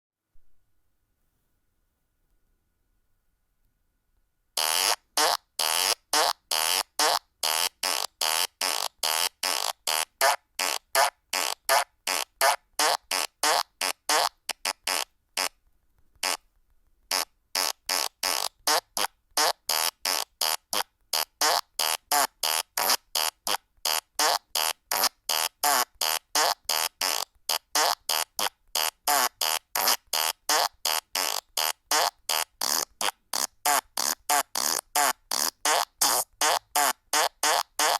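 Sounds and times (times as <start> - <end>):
fart sound effects: 4.6 - 15.6, 16.2 - 16.4, 17.1 - 37.9.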